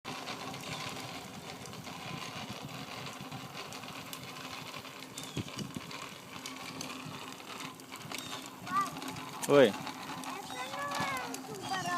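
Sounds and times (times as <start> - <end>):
rolling road noise: 0.0 - 11.9
bicycle clatter and clicks: 0.1 - 11.9.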